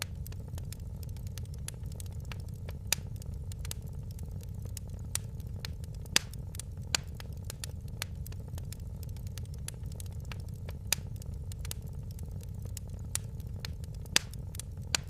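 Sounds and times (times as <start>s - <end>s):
loud pops of burning wood: 0.0s - 15.0s
low rumble of burning fire: 0.0s - 15.0s
wood fire crackling: 0.0s - 15.0s.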